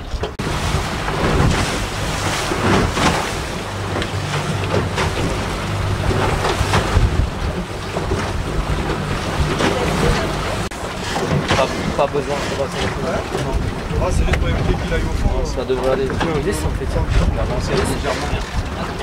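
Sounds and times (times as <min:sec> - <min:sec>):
outboard motor running: 0:00.0 - 0:19.0
water rushing past hull: 0:00.0 - 0:19.0
wind buffeting microphone: 0:00.0 - 0:19.0.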